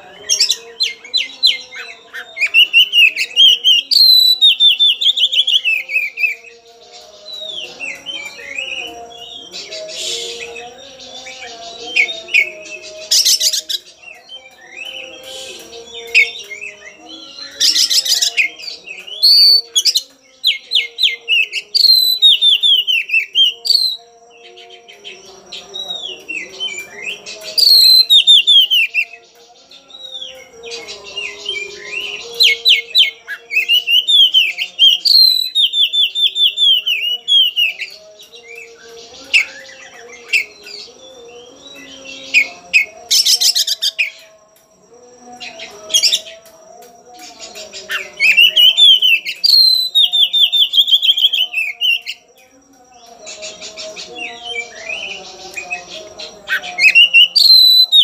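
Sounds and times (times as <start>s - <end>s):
bird singing whistled song: 0.0s - 58.0s.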